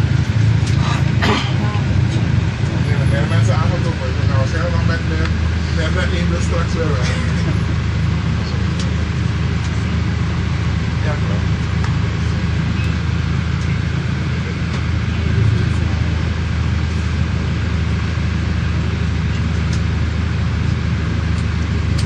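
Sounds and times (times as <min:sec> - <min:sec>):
low engine hum: 0:00.0 - 0:22.0
road noise inside vehicle: 0:00.0 - 0:22.0.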